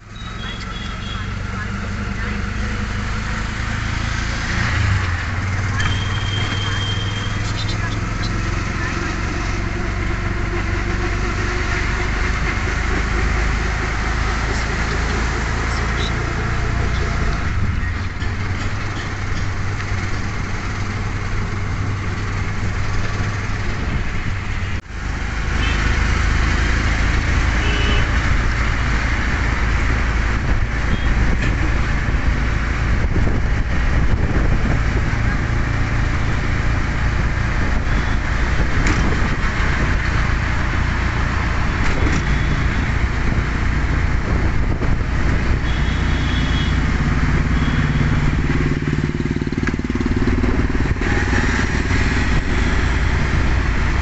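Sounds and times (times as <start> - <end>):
auto-rickshaw engine running: 0.0 - 54.0
road noise: 0.0 - 54.0
traffic: 0.0 - 54.0.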